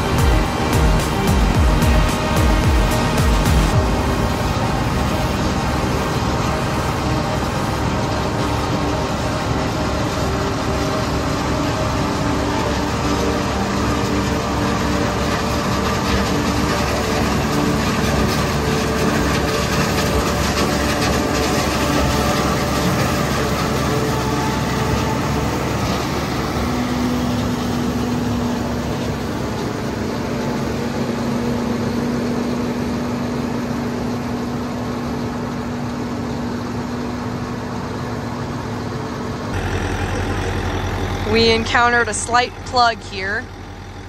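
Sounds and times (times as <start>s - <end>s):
forage harvester engine drone: 0.0s - 44.0s
strong steady hum: 0.0s - 44.0s.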